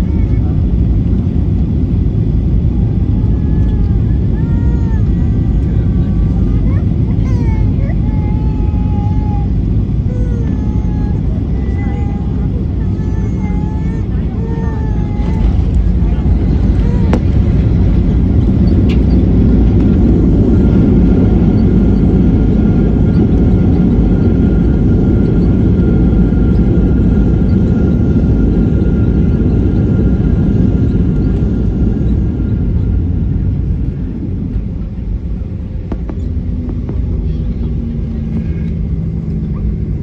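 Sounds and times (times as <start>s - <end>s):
airplane cabin engine and runway rumble: 0.0s - 40.0s.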